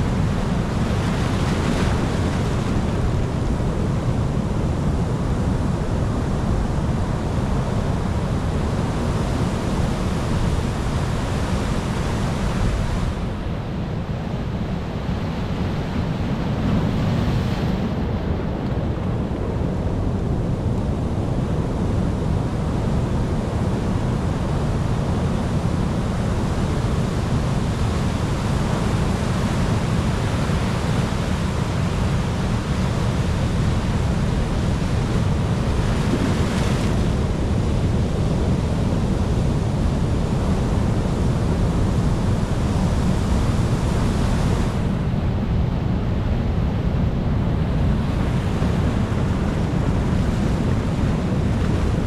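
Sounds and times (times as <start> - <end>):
ocean waves breaking on shore: 0.0 - 52.0
wind on microphone: 0.0 - 52.0.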